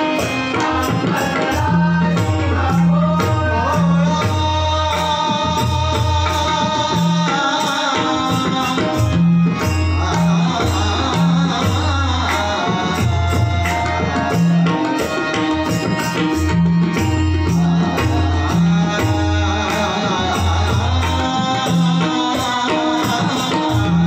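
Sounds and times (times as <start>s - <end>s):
hand drums playing fast rhythm: 0.0s - 24.0s.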